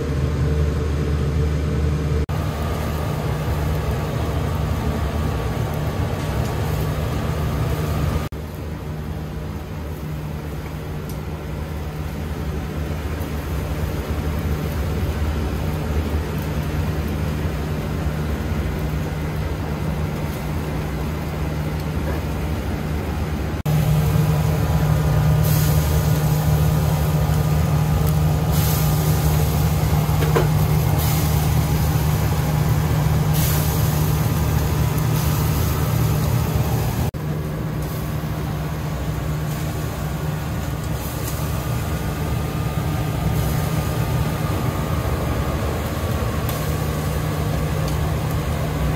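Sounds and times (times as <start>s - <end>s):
low hum: 0.0s - 48.9s
ventilation fan drone: 0.0s - 48.9s
grill hissing: 2.0s - 48.9s.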